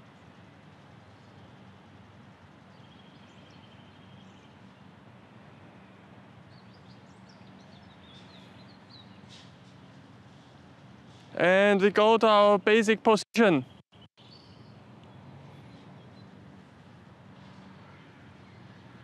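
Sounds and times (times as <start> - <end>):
low background noise: 0.0 - 19.0
songbirds chirping: 0.0 - 19.0.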